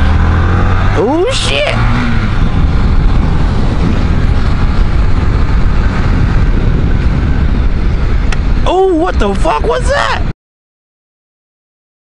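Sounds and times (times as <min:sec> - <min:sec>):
motorcycle engine running: 0:00.0 - 0:10.1
wind buffeting microphone: 0:00.0 - 0:10.3.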